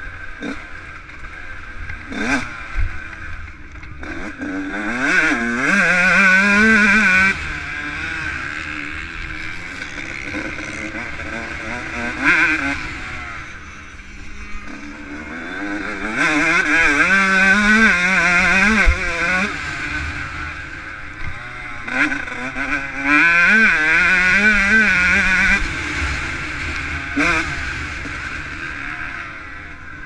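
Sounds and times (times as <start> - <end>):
motocross engine revving: 0.0 - 30.0.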